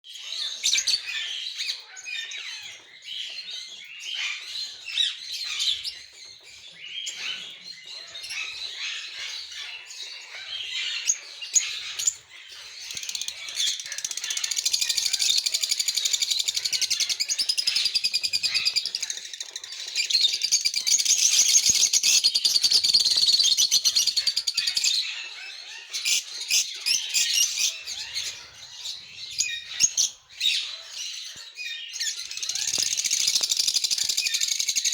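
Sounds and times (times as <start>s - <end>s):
parakeets chirping: 0.2s - 34.9s.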